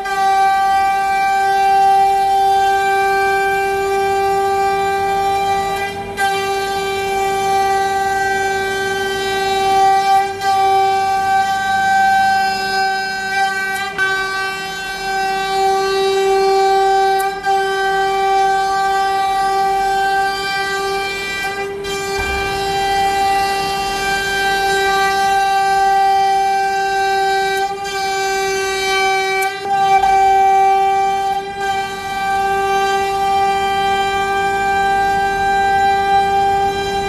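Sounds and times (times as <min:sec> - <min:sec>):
router spindle high-pitched whine: 0:00.0 - 0:37.0.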